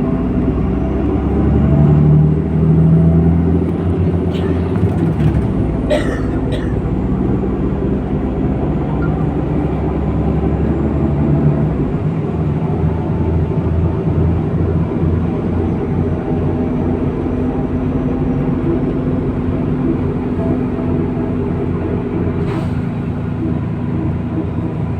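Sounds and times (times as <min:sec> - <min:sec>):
bus engine hum: 0:00.0 - 0:24.9.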